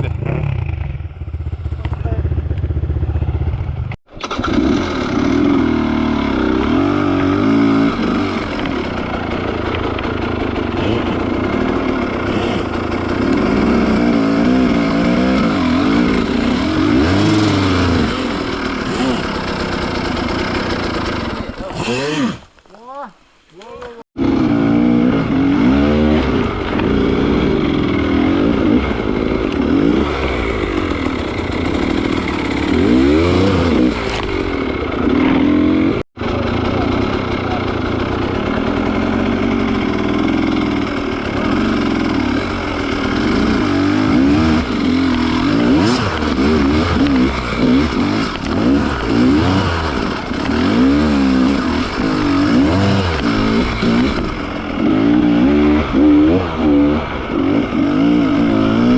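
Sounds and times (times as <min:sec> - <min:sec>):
motorcycle engine revving: 0:00.0 - 0:22.5, 0:24.2 - 0:58.9.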